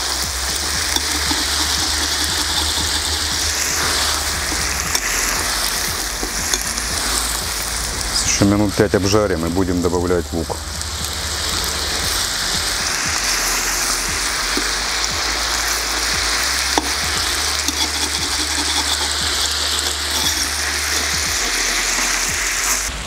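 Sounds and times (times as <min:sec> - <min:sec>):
meat sizzling in hot oil: 0:00.0 - 0:23.0
metal spoon scraping pot: 0:00.6 - 0:07.9, 0:11.7 - 0:22.9.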